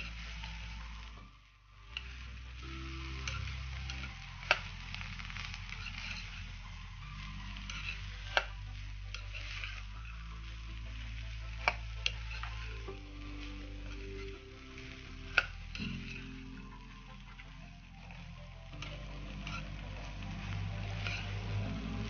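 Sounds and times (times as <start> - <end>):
beans sizzling in hot oil: 1.9 - 22.0.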